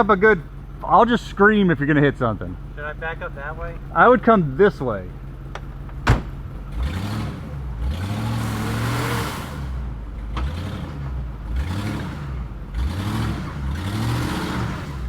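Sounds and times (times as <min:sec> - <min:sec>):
car engine revving: 0:01.8 - 0:15.0.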